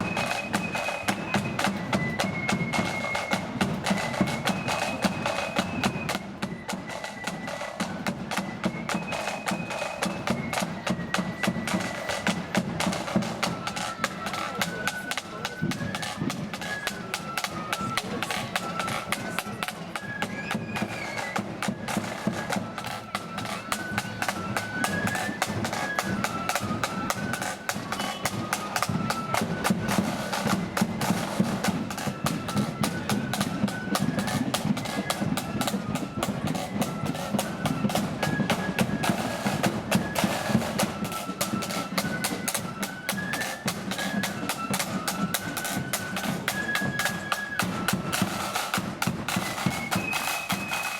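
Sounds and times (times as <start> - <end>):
flutes playing in unison: 0.0 - 50.9.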